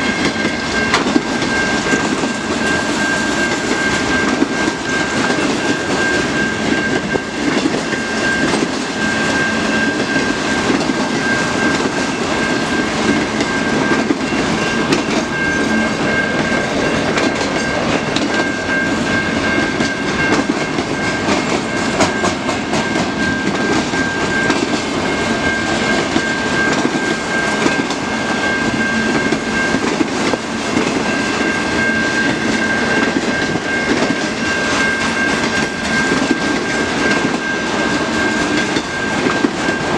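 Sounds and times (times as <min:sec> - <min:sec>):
freight train cars rumbling: 0:00.0 - 0:39.9
high ringing tone: 0:00.0 - 0:39.9.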